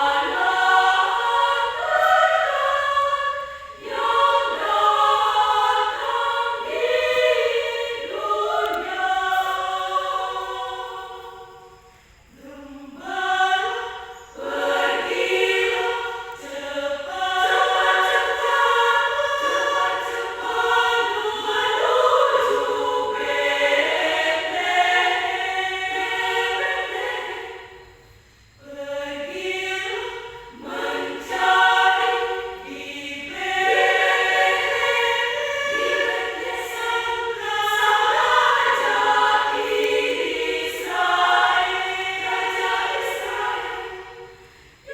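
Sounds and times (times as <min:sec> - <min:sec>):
women's choir singing: 0:00.0 - 0:44.9.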